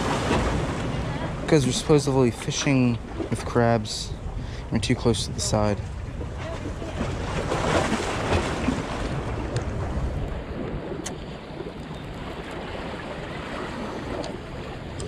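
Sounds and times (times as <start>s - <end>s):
waves splashing against rocks: 0.0s - 3.6s, 5.5s - 15.0s
wind rumbling on microphone: 0.0s - 15.0s.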